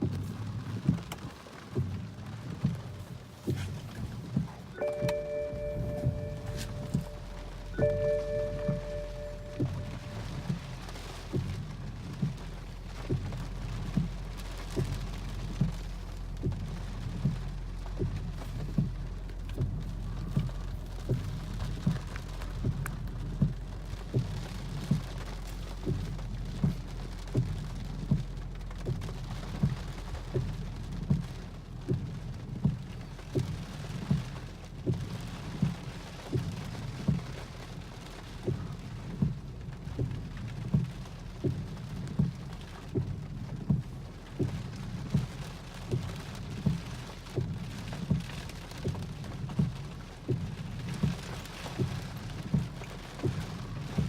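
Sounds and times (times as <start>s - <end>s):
storm wind and rain rushing: 0.0s - 54.0s.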